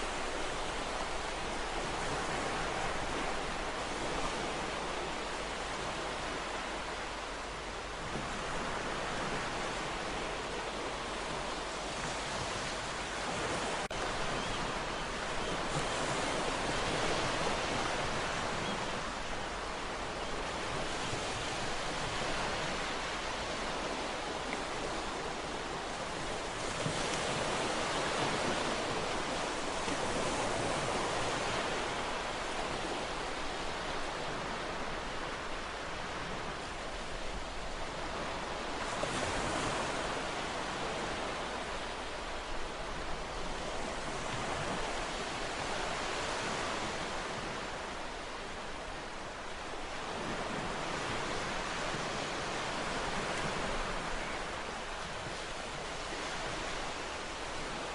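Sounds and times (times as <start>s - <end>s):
ocean waves washing onto shore: 0.0s - 57.9s.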